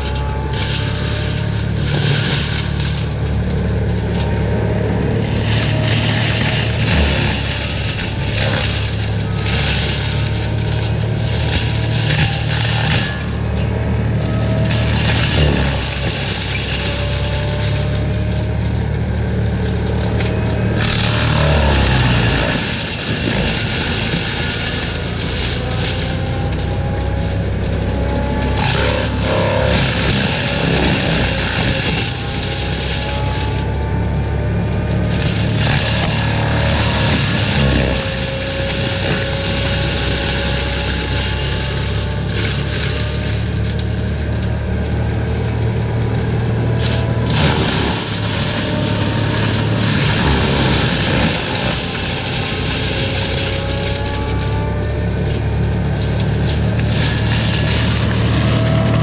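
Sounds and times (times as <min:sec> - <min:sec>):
forestry mulcher running: 0:00.0 - 0:59.0.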